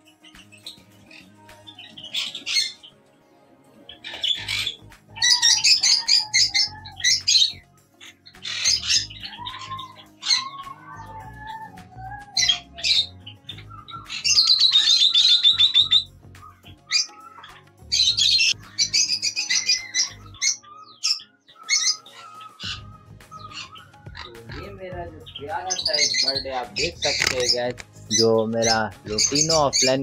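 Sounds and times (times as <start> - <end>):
lovebirds squawking: 0.0 - 3.0, 3.8 - 30.0.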